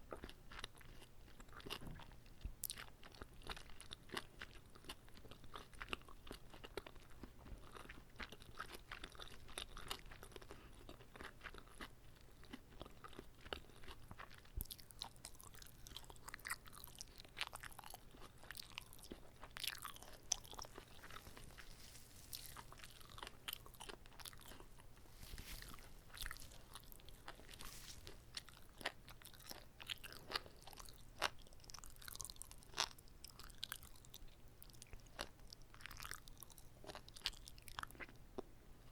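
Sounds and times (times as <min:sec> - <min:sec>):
chewing and biting food: 0:00.1 - 0:38.5.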